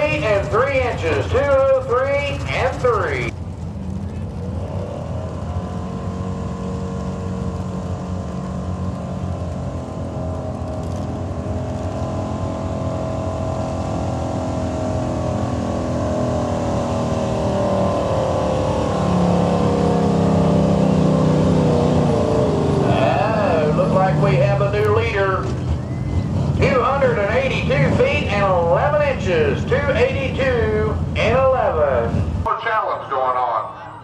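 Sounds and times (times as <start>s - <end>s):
truck engine running under load: 0.0s - 32.5s.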